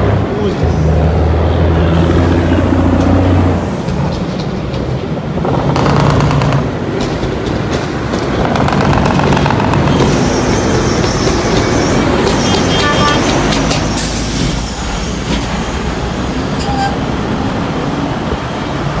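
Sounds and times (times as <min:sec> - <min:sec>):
diesel truck engine: 0:00.0 - 0:19.0
traffic noise: 0:00.0 - 0:19.0.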